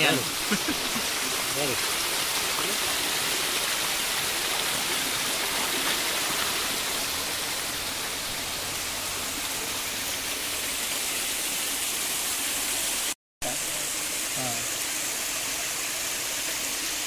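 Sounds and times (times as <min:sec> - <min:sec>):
stream water rushing over concrete: 0:00.0 - 0:17.0.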